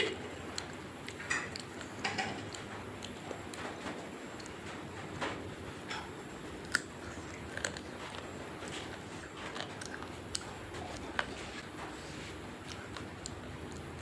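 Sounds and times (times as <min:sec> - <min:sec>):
person chewing food: 0:00.0 - 0:03.6, 0:05.9 - 0:14.0.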